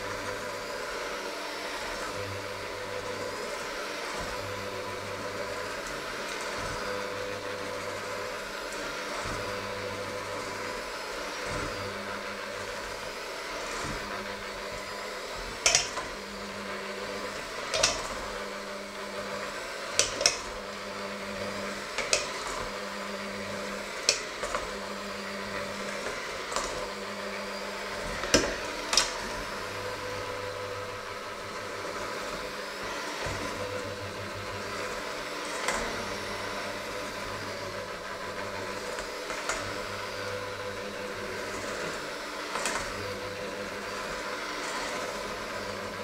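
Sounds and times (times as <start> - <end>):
electric mixer motor hum: 0.0 - 46.0.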